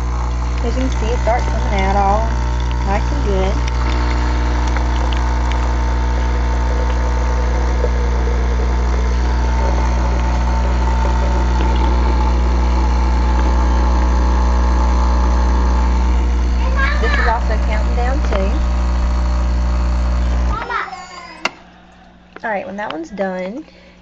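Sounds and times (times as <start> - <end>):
coffee machine pump buzzing: 0.0 - 23.0.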